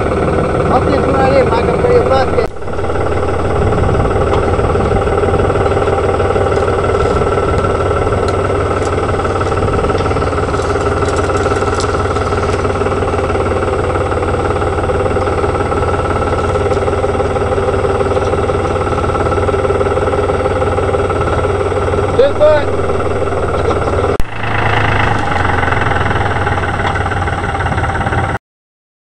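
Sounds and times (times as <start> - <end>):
tractor engine running: 0.0 - 28.4.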